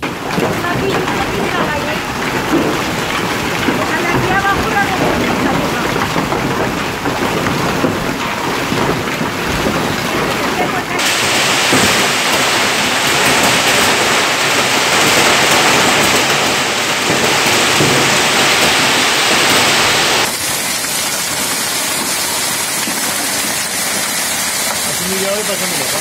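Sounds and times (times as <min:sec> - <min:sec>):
hail and heavy rain pelting: 0:00.0 - 0:26.0.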